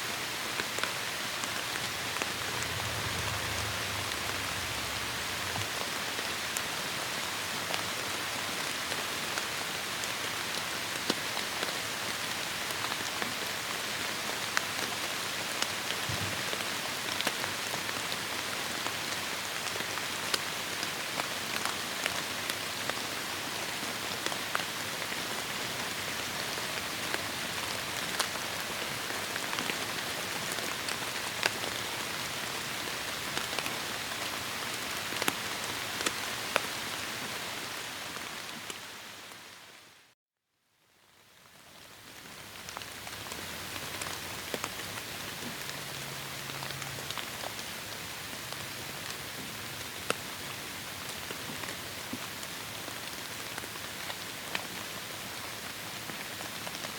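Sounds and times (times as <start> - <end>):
heavy rain on foliage: 0.0 - 40.1, 41.0 - 56.9
raindrops striking close by: 0.3 - 39.7, 41.0 - 56.9.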